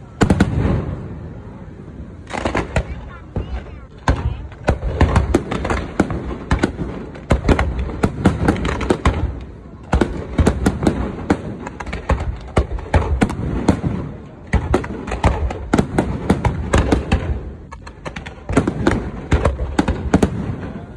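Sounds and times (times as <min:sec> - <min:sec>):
firework shells bursting: 0:02.2 - 0:20.6.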